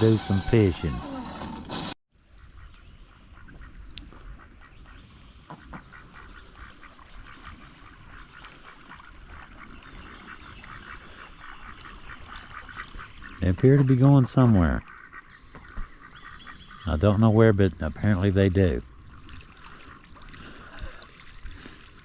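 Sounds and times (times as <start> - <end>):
ducks quacking: 0.0 - 1.4, 2.4 - 21.7.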